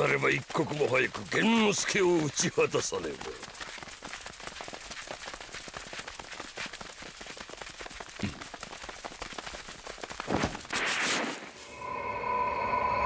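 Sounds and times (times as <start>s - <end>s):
rapid patter of footfalls: 0.0s - 11.6s.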